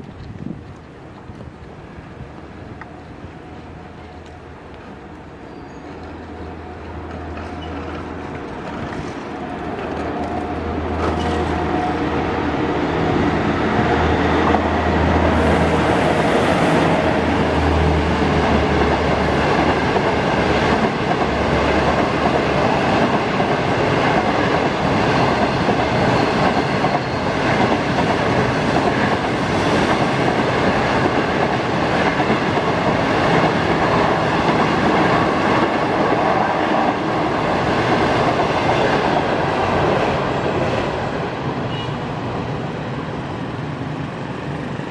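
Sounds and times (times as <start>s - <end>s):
train rolling past: 0.0s - 44.9s.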